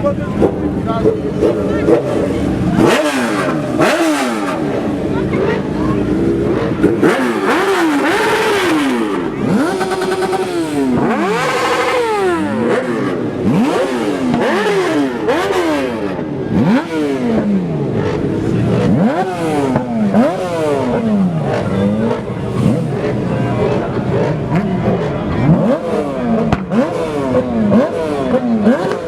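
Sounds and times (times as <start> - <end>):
engines revving: 0.0 - 29.0.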